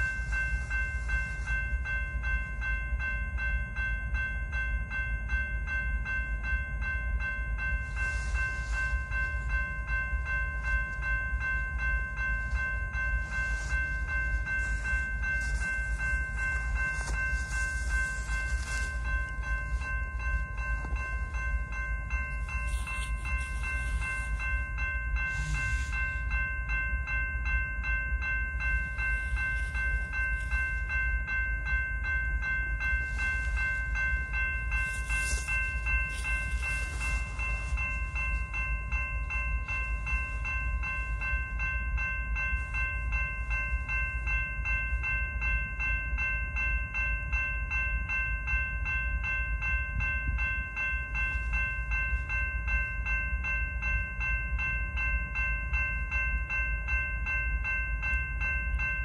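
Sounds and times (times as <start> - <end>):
crossing warning bell ringing: 0.0 - 59.0
freight train rumbling: 0.0 - 59.0.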